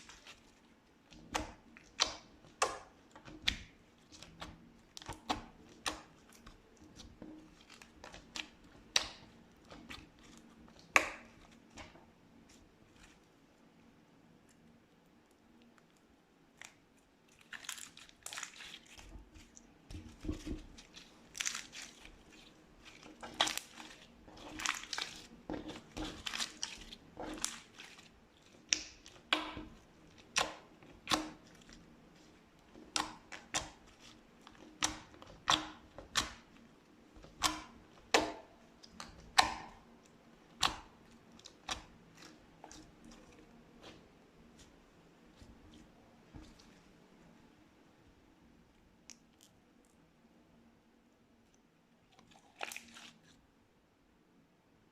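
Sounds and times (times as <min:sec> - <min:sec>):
slime squishing: 0:00.0 - 0:13.7, 0:14.3 - 0:47.4, 0:52.1 - 0:53.4.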